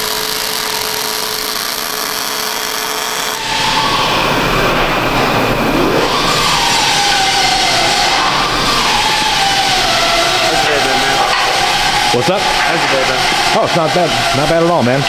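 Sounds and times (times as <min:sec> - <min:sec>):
angle grinder whining: 0:00.0 - 0:15.0.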